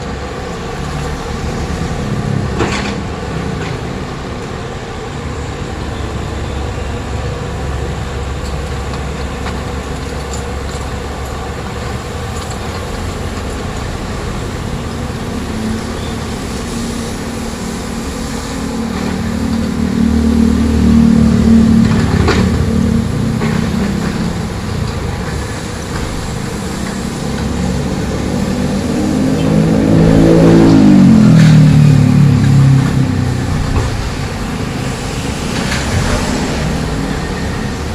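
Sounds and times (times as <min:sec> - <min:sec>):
excavator diesel engine revving: 0:00.0 - 0:37.9.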